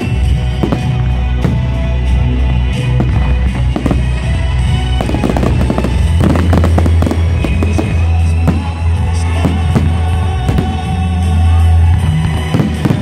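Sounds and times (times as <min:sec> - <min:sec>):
fireworks bursting and crackling: 0:00.0 - 0:13.0
music: 0:00.0 - 0:13.0.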